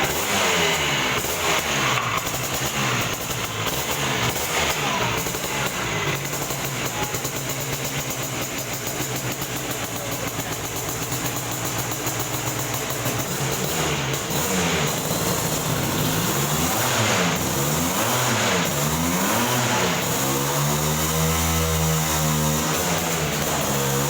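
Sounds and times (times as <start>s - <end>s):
scooter engine revving: 0.0s - 24.0s.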